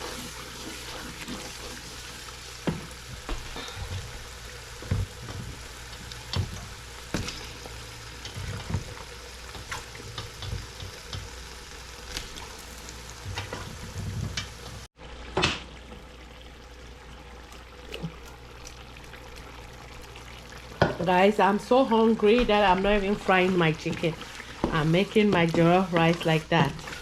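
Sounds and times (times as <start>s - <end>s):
vegetables sizzling in hot oil: 0.0s - 15.6s, 17.9s - 27.0s.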